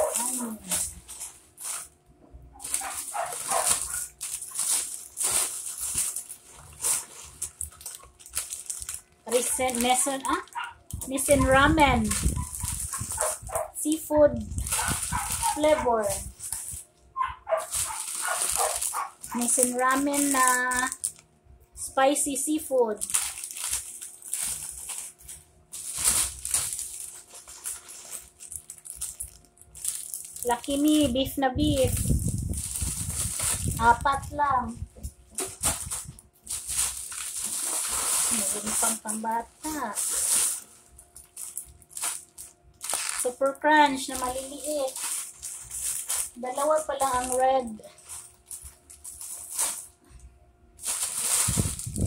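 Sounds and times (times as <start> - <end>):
plastic wrappers crinkling: 0.0 - 21.3, 22.3 - 50.2, 50.8 - 52.0.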